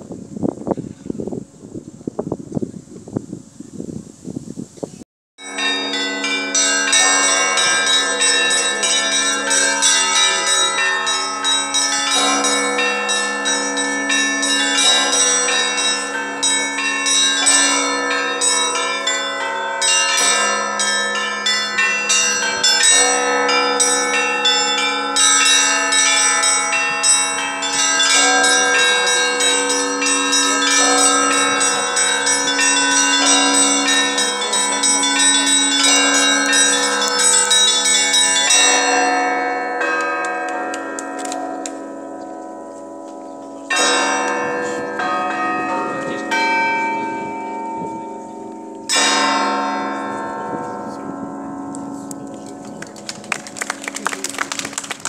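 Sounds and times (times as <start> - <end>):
church bells ringing: 5.4 - 55.0.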